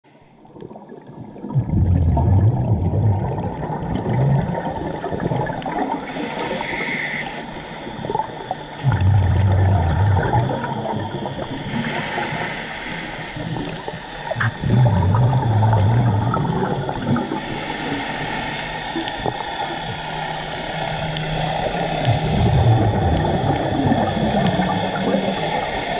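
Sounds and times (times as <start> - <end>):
exhaled bubbles rumbling underwater: 0.4 - 25.9
regulator hiss: 4.6 - 25.9.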